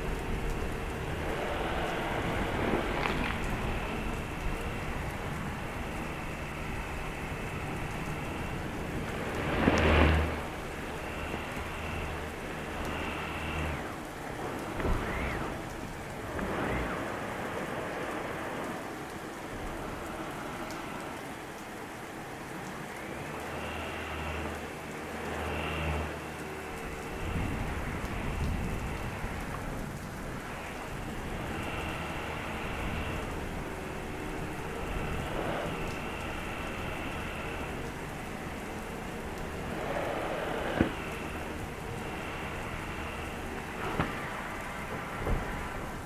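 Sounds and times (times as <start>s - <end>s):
thunder rumbling: 0.0s - 23.8s, 24.4s - 46.0s
heavy rain falling: 0.0s - 46.0s
low hum: 0.0s - 46.0s.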